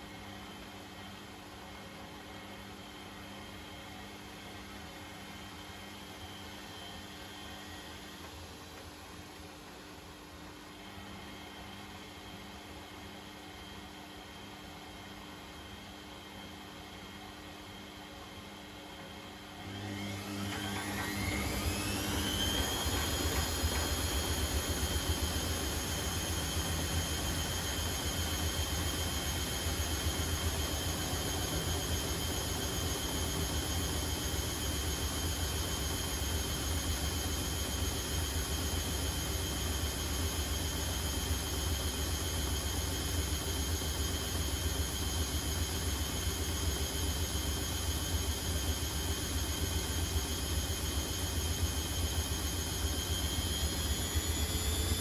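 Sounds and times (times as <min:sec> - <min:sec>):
washing machine motor whine: 0:00.0 - 0:09.2, 0:10.5 - 0:55.0.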